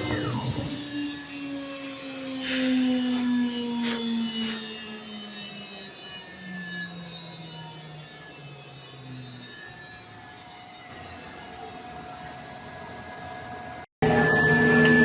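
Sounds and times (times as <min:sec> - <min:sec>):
cnc router humming: 0:00.0 - 0:15.0
faint high whines: 0:00.0 - 0:15.0.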